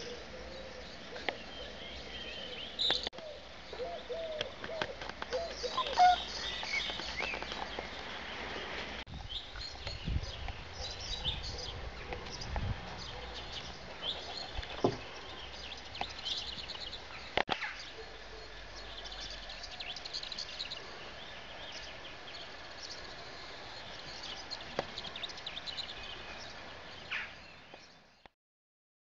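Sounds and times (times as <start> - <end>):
small birds chirping: 0.0 - 28.3
outdoor background noise: 0.0 - 28.4.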